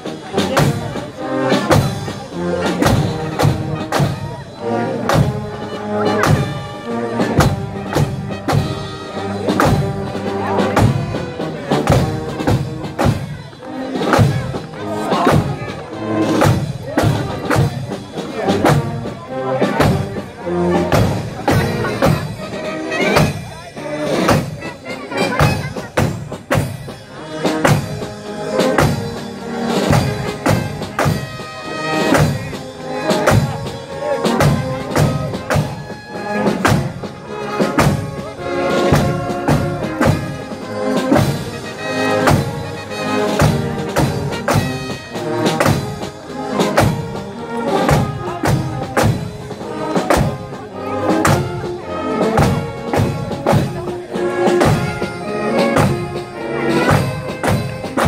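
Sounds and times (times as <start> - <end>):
marching band playing: 0.0 - 58.0
steady drum beat: 0.0 - 58.0.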